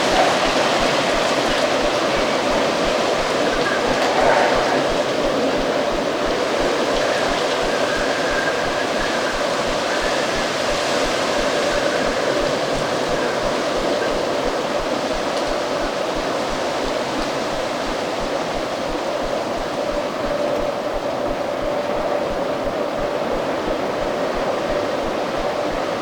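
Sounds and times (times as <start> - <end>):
high wind whistle: 0.0 - 26.0
strong wind blowing: 0.0 - 26.0.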